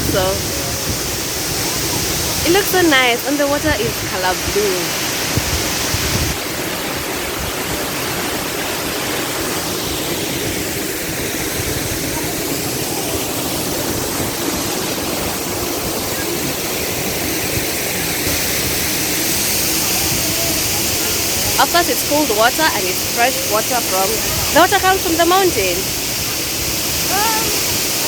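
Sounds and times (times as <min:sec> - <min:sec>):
waterfall pouring into pool: 0:00.1 - 0:28.0.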